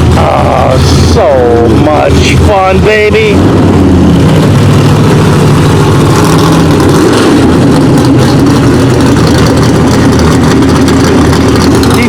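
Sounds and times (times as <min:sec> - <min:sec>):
car engine deep note: 0:00.0 - 0:12.0.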